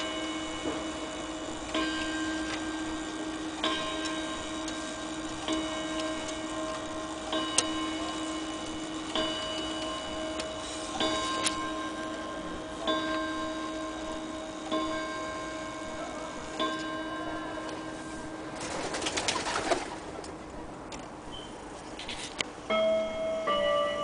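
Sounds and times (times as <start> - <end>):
clock striking on a gong: 0.0 - 18.6, 22.6 - 24.0.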